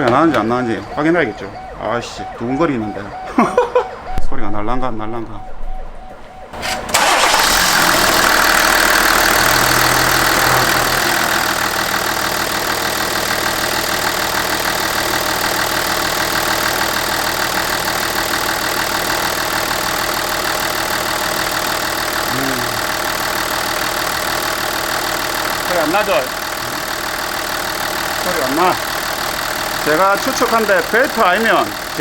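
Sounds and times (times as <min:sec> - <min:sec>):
car engine starting and idling: 0:00.0 - 0:04.2, 0:05.7 - 0:32.0.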